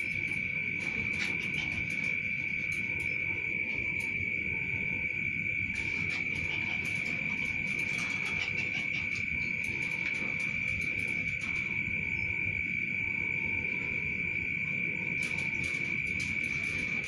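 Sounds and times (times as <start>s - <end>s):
insect high-pitched trill: 0.0s - 17.0s
low rumbling background noise: 0.0s - 17.0s.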